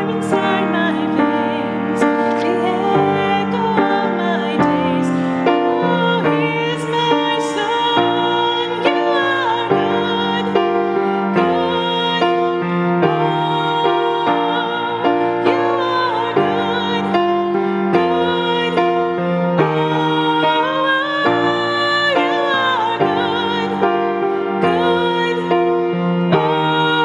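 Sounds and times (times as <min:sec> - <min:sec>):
piano chords: 0:00.0 - 0:27.0
woman singing: 0:00.0 - 0:27.0.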